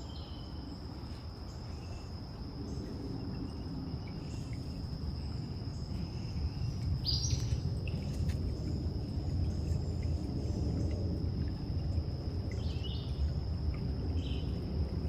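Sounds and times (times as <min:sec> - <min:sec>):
insect trill: 0:00.0 - 0:15.0
wind rumble on microphone: 0:00.0 - 0:15.0.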